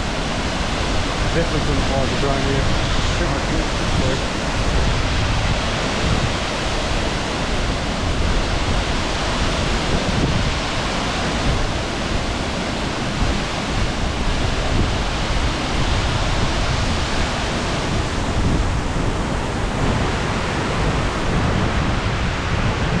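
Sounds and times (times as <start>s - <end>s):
deep rumble of waterfall: 0.0s - 23.0s
waterfall rushing: 0.0s - 23.0s.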